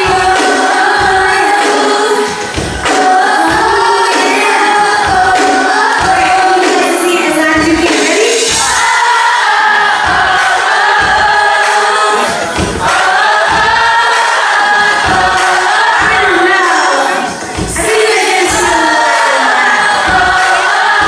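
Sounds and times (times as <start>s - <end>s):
band with steady drum beat: 0.0s - 21.0s.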